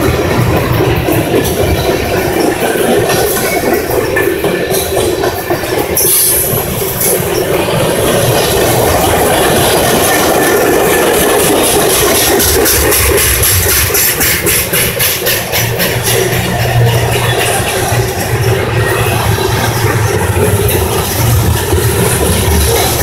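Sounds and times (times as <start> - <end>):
fast run of wheel clicks: 0.0 - 23.0
freight train rumbling past: 0.0 - 23.0
high wheel squeal: 0.0 - 23.0.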